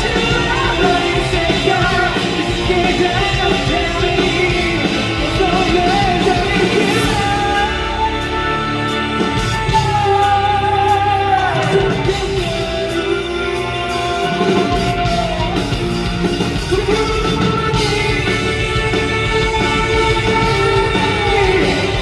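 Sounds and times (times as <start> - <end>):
live rock band playing: 0.0 - 22.0
man singing lead vocal: 0.0 - 22.0.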